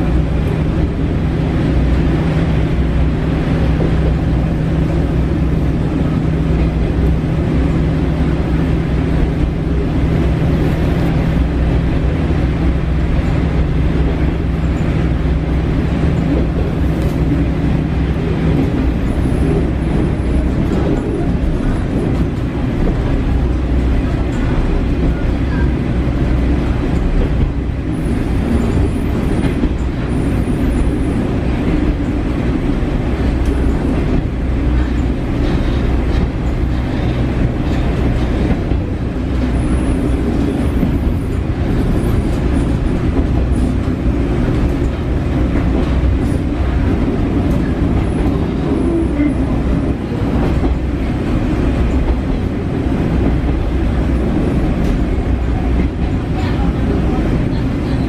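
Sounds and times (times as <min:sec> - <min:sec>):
wheels rumbling on rails: 0:00.0 - 0:58.0.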